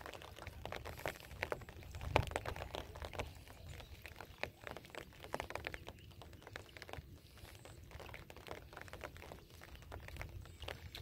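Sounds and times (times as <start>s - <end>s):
light rain pattering: 0.0s - 11.0s.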